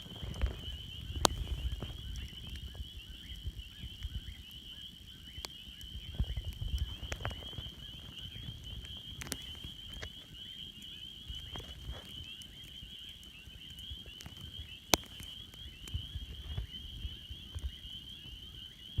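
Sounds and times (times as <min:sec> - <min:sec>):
campfire crackling and popping: 0:00.0 - 0:19.0
rumble of flame: 0:00.0 - 0:19.0.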